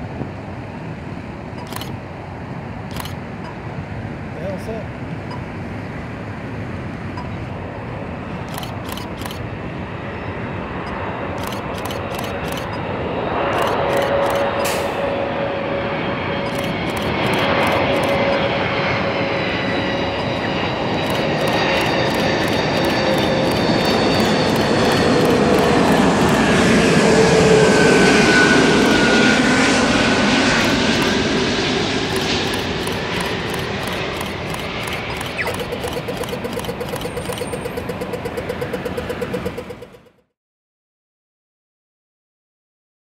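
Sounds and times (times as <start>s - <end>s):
jet aircraft passing overhead: 0.0s - 40.1s.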